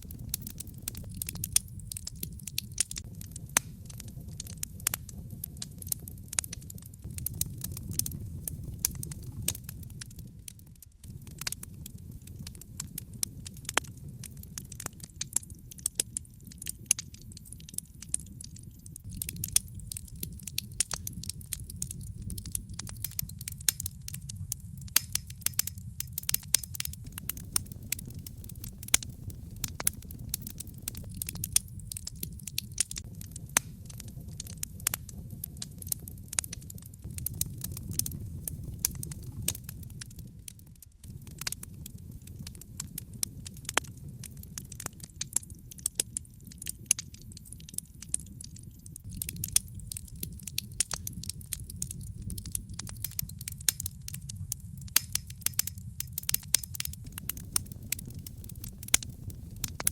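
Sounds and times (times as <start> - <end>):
log fire crackling: 0.0 - 59.9
sharp pops and snaps of fire: 0.0 - 59.9.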